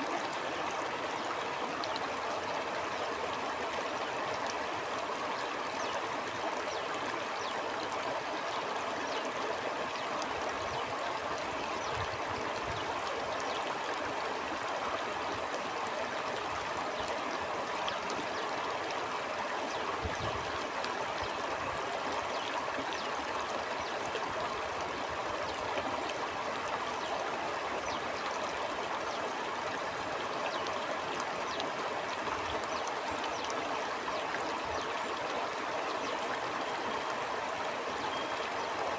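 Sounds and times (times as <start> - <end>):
stream babbling water: 0.0 - 38.9.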